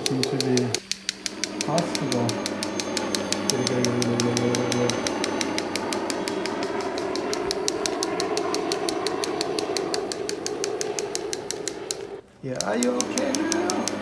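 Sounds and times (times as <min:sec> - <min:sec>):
rapid even clicking: 0:00.0 - 0:14.0
toy helicopter motor whine: 0:00.0 - 0:14.0.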